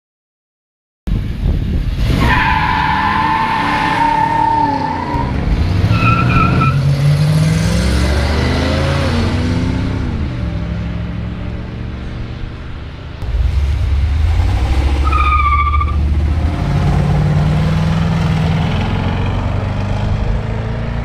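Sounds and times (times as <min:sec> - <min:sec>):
car engines accelerating: 0:01.6 - 0:21.0.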